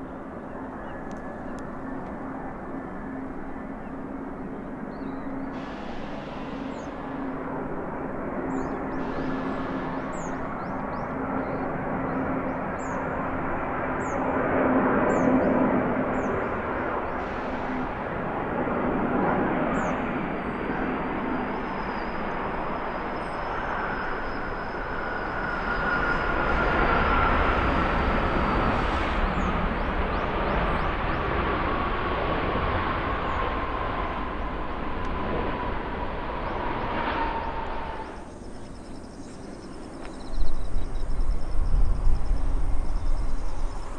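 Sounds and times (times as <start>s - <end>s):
jet engine whine falling in pitch: 0.0s - 43.9s
jet engines roaring: 0.0s - 43.9s.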